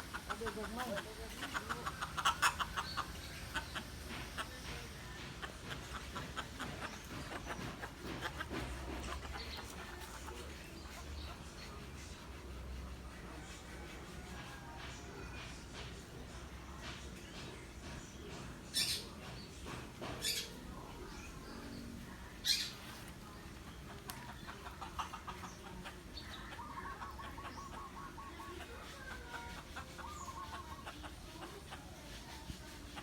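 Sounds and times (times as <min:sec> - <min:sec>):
birds calling: 0:00.0 - 0:33.0.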